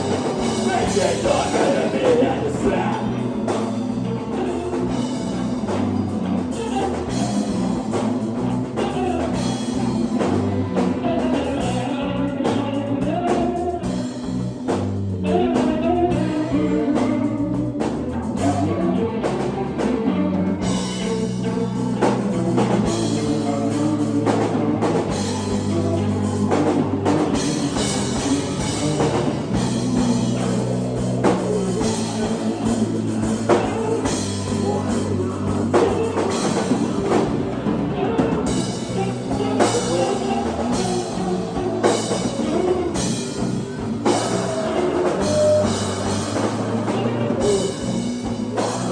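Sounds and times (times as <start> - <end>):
live rock band playing: 0.0 - 48.9
person singing: 0.0 - 48.9.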